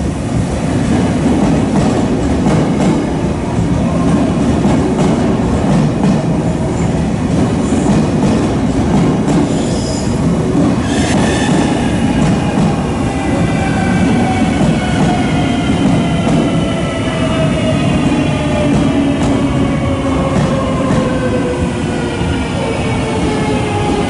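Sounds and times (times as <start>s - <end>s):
electric train wheels rumbling: 0.0s - 24.0s.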